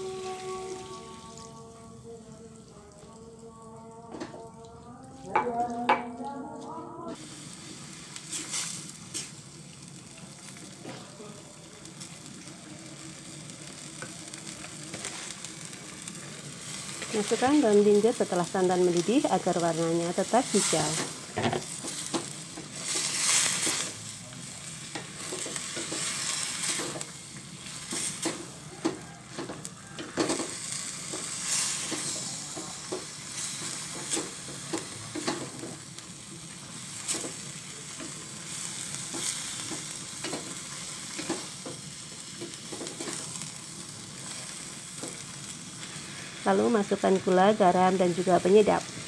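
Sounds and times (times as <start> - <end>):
sauce sizzling: 5.3 - 49.0.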